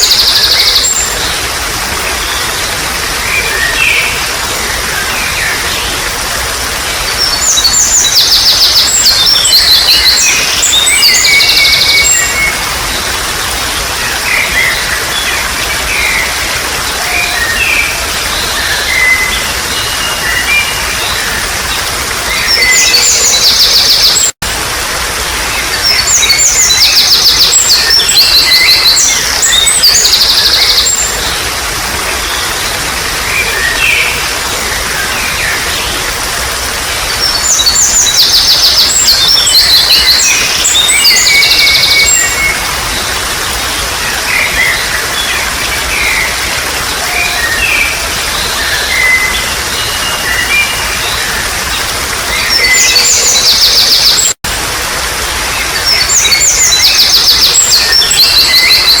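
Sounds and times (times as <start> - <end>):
birds singing and trilling: 0.0 - 54.4, 55.0 - 59.0
trickle of flowing water: 0.0 - 59.0.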